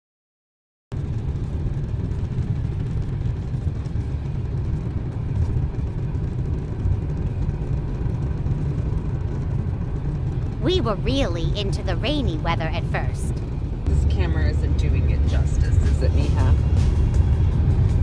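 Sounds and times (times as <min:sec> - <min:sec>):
car road and engine noise: 0:00.9 - 0:18.0.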